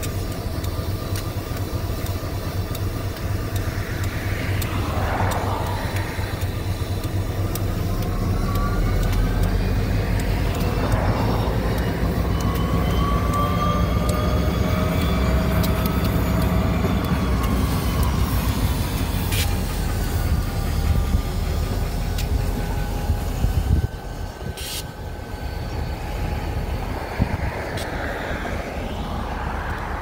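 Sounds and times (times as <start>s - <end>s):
cars passing on road: 0.0s - 30.0s
diesel locomotive engine drone: 0.0s - 30.0s
rising turbocharger whine: 0.0s - 30.0s.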